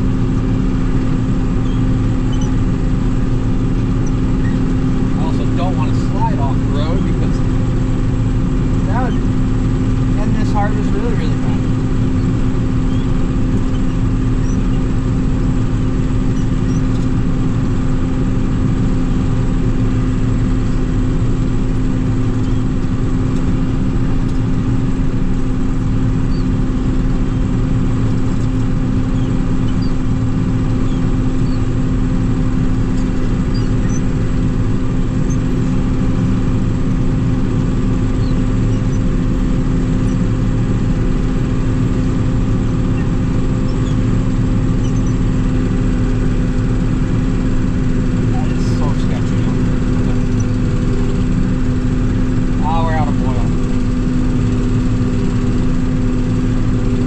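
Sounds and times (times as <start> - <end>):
diesel engine humming steadily: 0.0 - 57.0.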